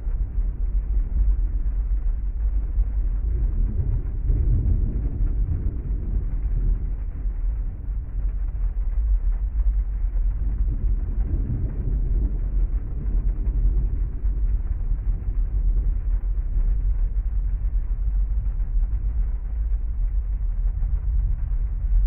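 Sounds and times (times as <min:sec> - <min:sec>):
heavy rain on car roof: 0:00.0 - 0:22.0.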